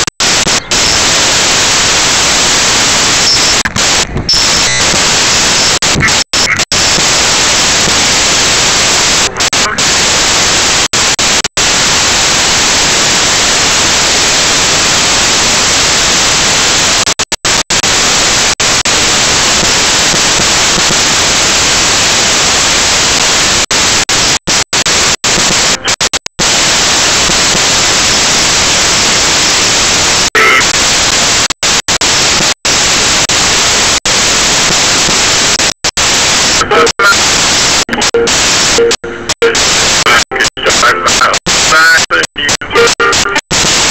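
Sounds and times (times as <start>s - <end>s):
electronic hiss: 0.0s - 43.9s.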